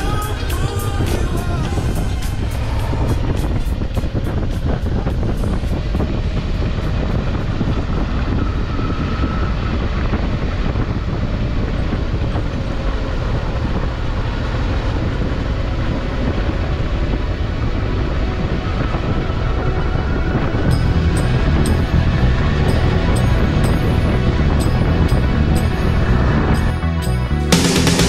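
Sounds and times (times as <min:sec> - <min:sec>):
wind rushing over microphone: 0:00.0 - 0:27.4
motorcycle engine cruising: 0:00.0 - 0:28.0.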